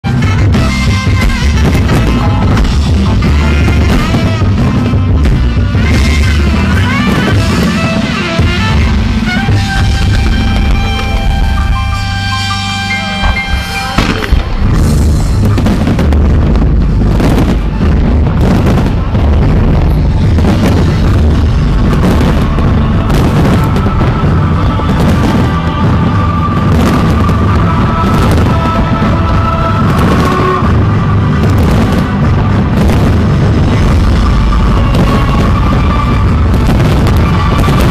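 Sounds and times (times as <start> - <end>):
fireworks banging and booming: 0.0 - 37.9
loud rock music with heavy bass: 0.0 - 37.9.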